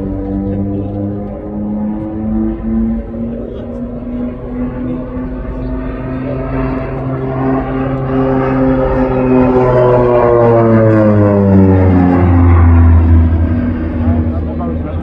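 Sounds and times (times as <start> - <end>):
turboprop aircraft flypast drone: 0.0 - 15.0.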